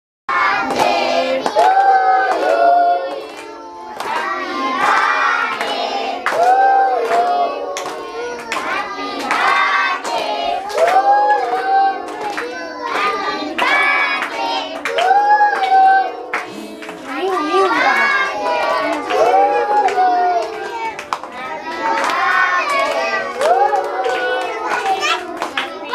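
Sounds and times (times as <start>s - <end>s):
women singing together: 0.3s - 25.9s
hands clapping in time: 0.6s - 25.9s.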